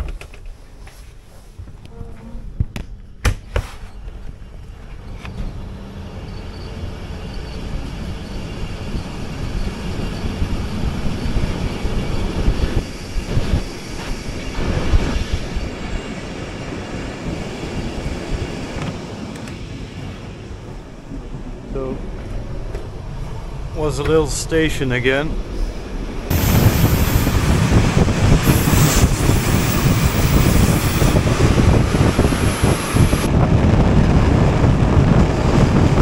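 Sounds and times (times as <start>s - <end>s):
train rumbling: 0.0s - 36.0s.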